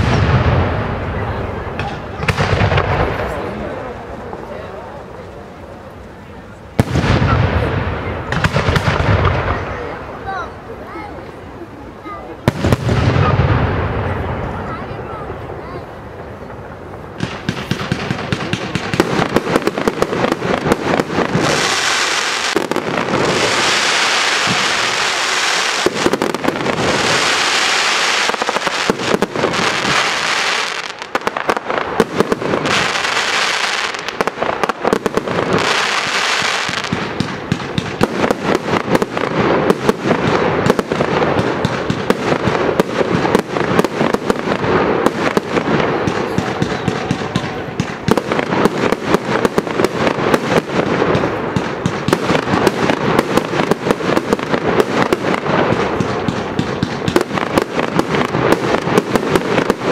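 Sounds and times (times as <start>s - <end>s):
fireworks bangs and crackling: 0.0s - 59.9s
fireworks hissing upward: 6.5s - 59.9s.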